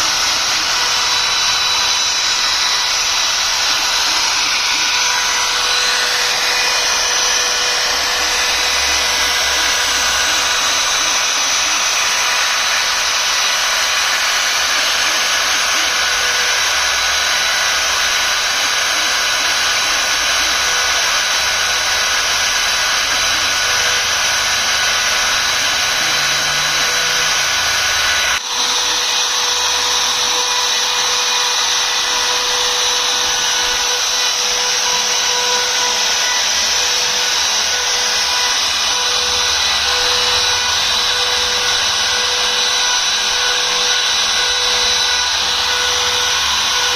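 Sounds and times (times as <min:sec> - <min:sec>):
router spindle whining: 0:00.0 - 0:46.9.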